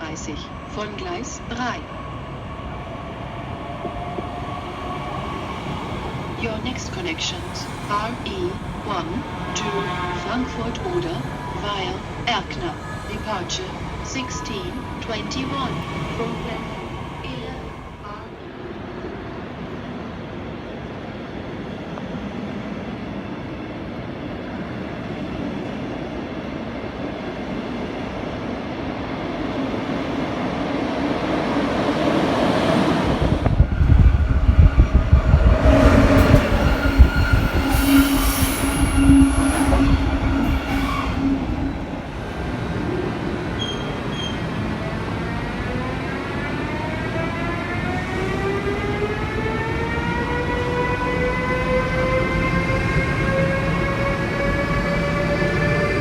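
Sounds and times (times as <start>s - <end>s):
train rumbling past: 0.0s - 56.0s
train whine: 0.0s - 56.0s.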